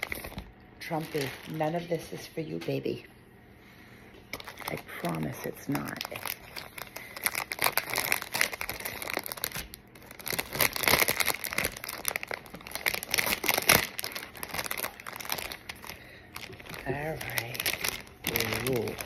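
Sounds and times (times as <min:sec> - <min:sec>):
plastic packaging crinkling: 0:00.0 - 0:02.1, 0:04.3 - 0:19.0.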